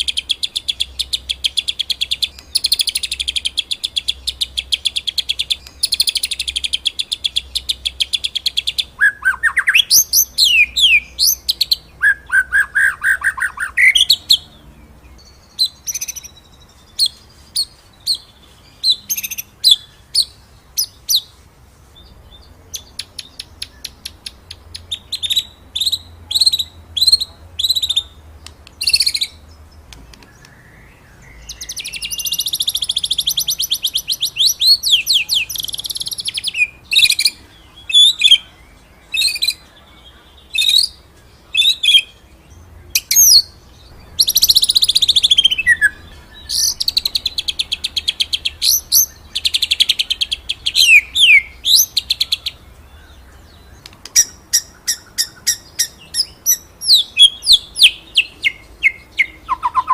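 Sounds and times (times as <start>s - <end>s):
songbird trilling and whistling: 0.0s - 21.3s, 22.0s - 59.9s.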